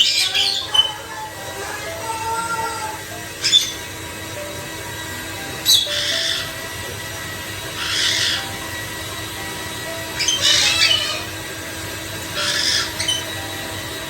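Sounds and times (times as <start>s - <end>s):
parrot squawking: 0.0s - 4.5s, 5.4s - 7.0s, 7.6s - 13.8s.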